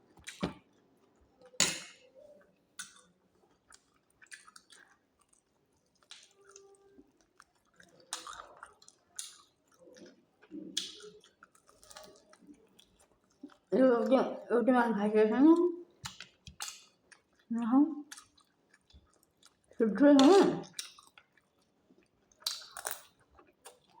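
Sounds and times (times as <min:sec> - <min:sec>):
chewing and crunching food: 0:00.0 - 0:14.5, 0:15.5 - 0:24.0.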